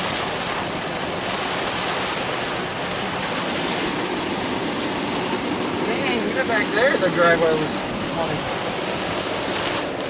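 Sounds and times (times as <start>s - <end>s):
heavy downpour: 0.0s - 10.0s
running floodwater: 0.0s - 10.0s.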